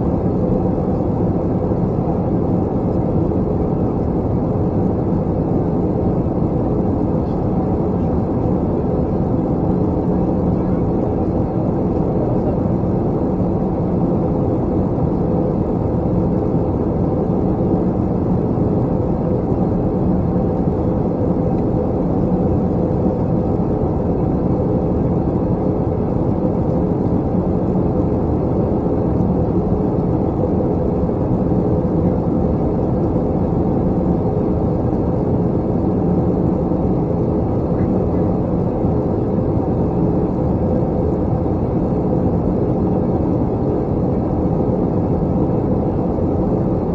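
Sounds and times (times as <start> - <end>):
airliner cabin engine and airflow noise: 0.0 - 46.9.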